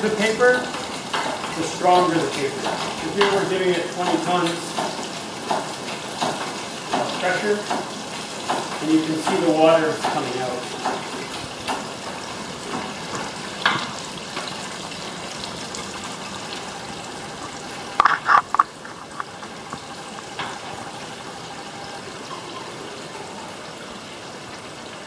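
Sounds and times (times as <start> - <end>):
water trickling and spattering: 0.0 - 25.0.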